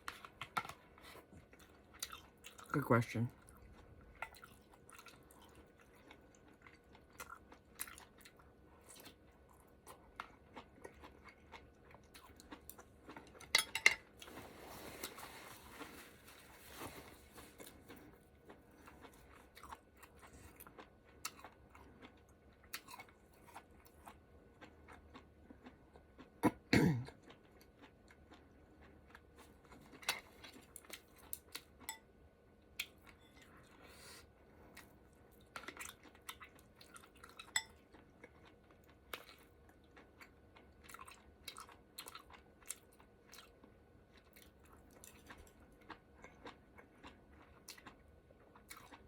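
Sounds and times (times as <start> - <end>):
person chewing noodles: 0.0 - 49.0.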